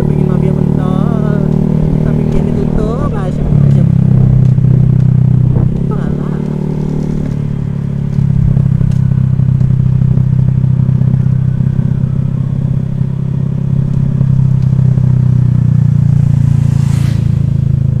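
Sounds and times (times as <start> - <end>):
scooter engine running: 0.0 - 18.0.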